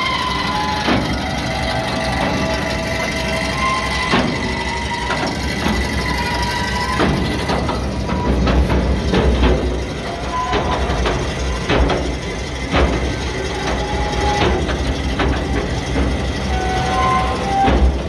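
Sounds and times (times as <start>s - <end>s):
low engine rumble: 0.0s - 18.0s
metal squeaking: 0.0s - 18.0s
metallic clanks and knocks: 0.0s - 18.0s.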